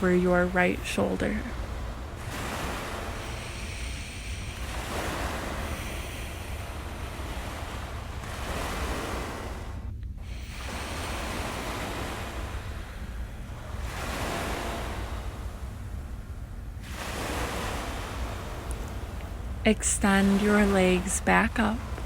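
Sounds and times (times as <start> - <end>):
ocean waves washing in: 0.0 - 22.0.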